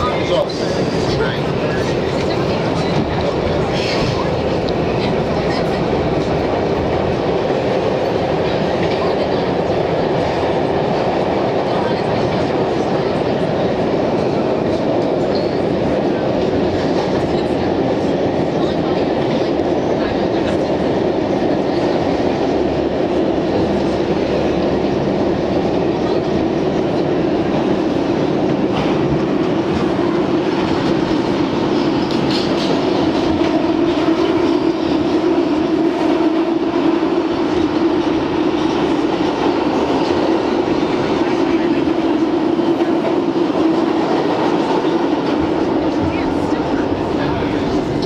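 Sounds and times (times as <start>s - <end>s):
subway wheels rumbling on rails: 0.0s - 48.0s.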